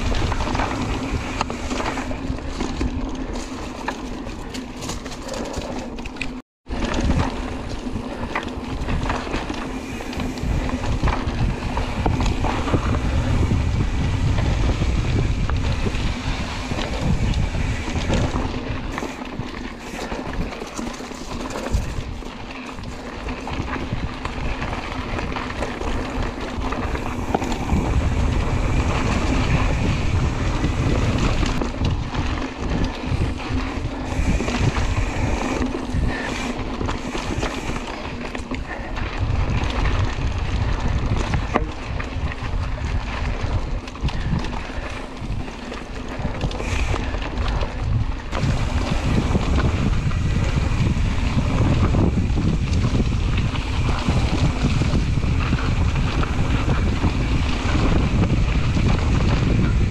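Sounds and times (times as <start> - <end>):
bike knocks and rattles: 0.0 - 59.9
wind buffeting microphone: 0.0 - 59.9.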